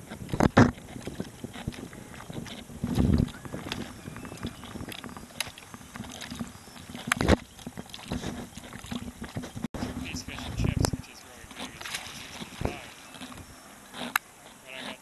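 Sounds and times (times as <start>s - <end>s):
small waves lapping against boat hull: 0.0s - 15.0s.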